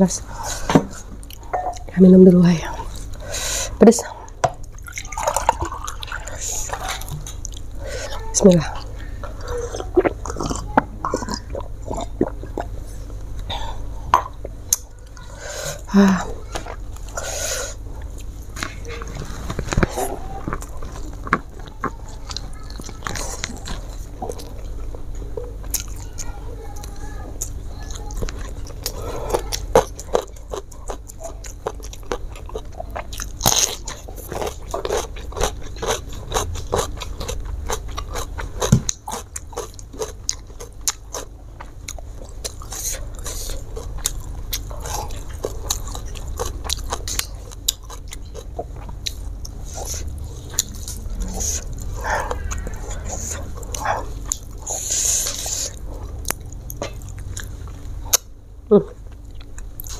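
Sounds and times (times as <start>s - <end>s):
chewing crunchy food: 0.3s - 3.3s, 3.9s - 59.9s.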